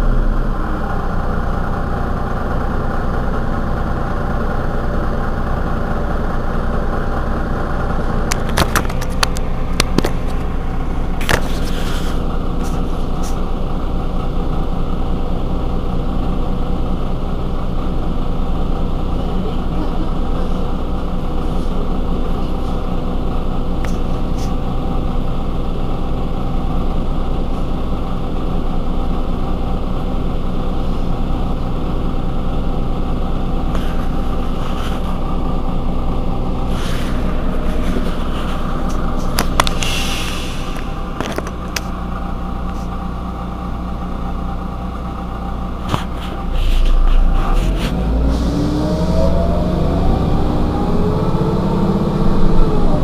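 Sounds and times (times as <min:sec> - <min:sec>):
bus diesel engine idling: 0:00.0 - 0:53.0.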